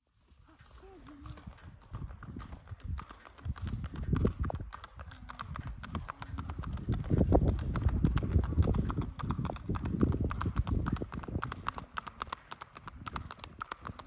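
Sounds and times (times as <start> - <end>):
horse hooves on asphalt: 0.3 - 14.0.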